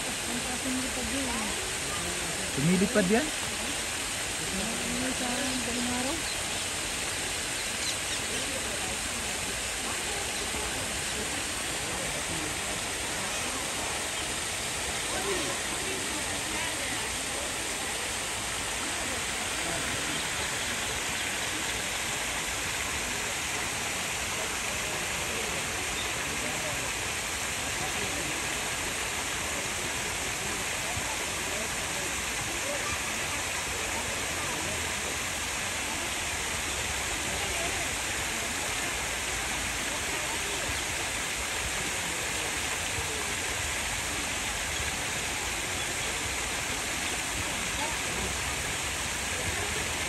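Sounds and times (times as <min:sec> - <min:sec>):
running water rushing: 0:00.0 - 0:50.0.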